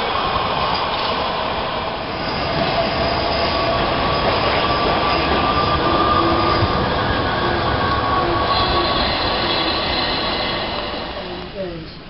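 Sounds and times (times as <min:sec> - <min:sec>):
tram rolling on street track: 0:00.0 - 0:12.0.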